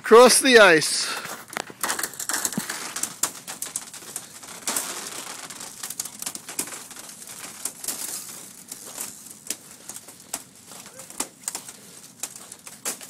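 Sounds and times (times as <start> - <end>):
footsteps cracking thin ice: 0.1 - 13.0.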